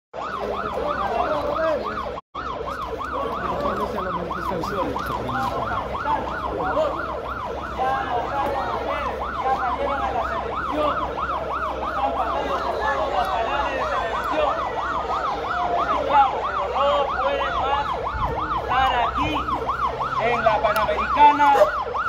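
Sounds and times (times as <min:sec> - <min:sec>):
emergency siren yelping: 0:00.2 - 0:22.0.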